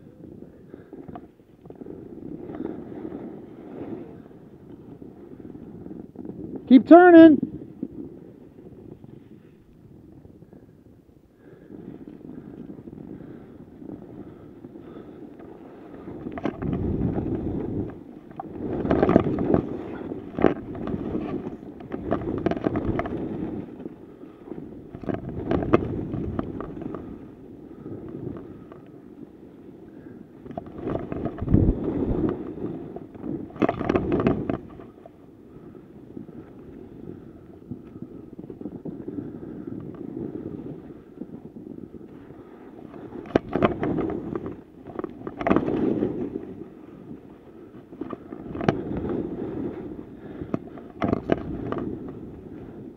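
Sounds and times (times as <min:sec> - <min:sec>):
sharp clatters of skis: 0:00.7 - 0:10.2, 0:11.6 - 0:52.9
skis scraping through snow: 0:01.6 - 0:10.9, 0:11.5 - 0:52.9.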